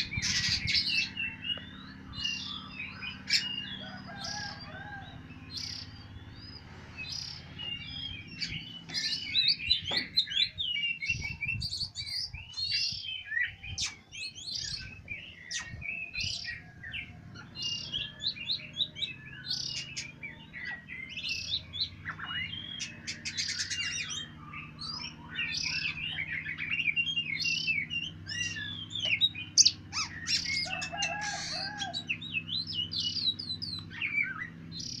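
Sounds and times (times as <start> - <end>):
birds chirping and singing: 0.0 - 35.0.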